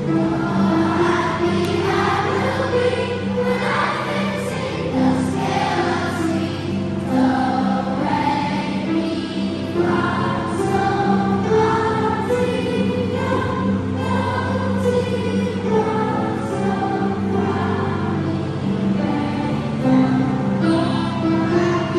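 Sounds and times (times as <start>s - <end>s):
children's choir singing: 0.0s - 21.9s
piano: 0.0s - 21.9s.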